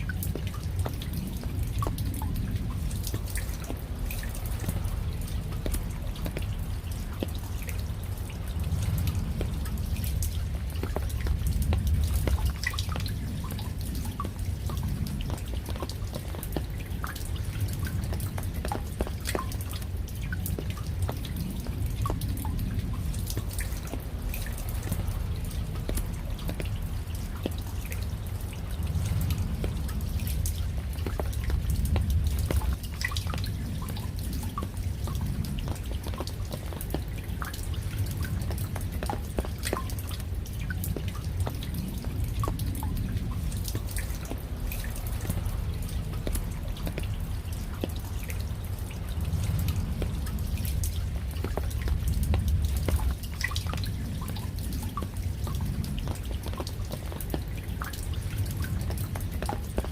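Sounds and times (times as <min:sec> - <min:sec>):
low rumble of rain: 0:00.0 - 0:59.9
raindrops dripping: 0:00.0 - 0:59.9.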